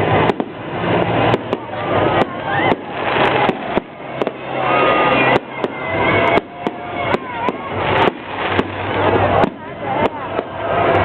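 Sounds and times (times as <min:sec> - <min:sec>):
firework shells bursting: 0:00.0 - 0:11.0
fireworks crackling: 0:00.0 - 0:11.0
spectators' voices: 0:00.0 - 0:11.0.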